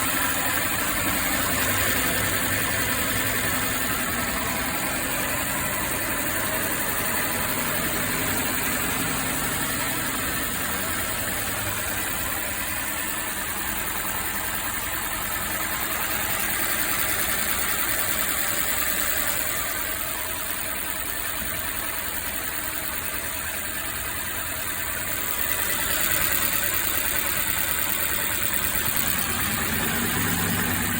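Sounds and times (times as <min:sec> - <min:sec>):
engine idling with misfire: 0:00.0 - 0:30.9.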